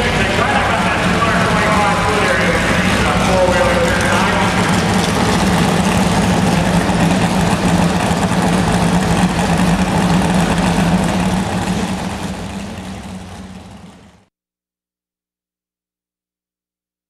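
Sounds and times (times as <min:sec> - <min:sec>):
truck engine idling: 0:00.0 - 0:14.3.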